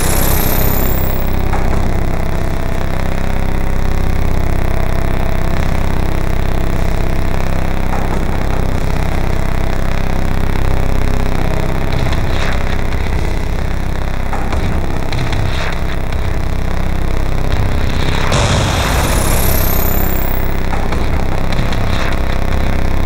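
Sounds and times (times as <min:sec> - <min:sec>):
heavy machine rumble: 0:00.0 - 0:23.0.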